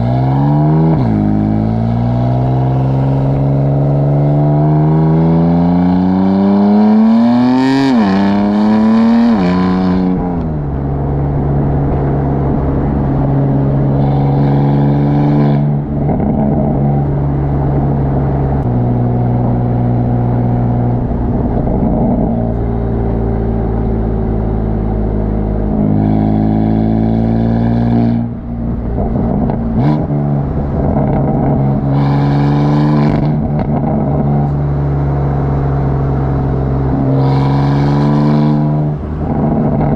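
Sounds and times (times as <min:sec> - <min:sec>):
car exhaust accelerating and droning: 0:00.0 - 0:39.9.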